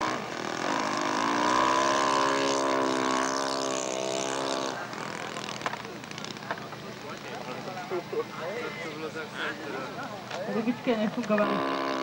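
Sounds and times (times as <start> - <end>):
model airplane engine running: 0.0 - 9.6, 10.6 - 12.0.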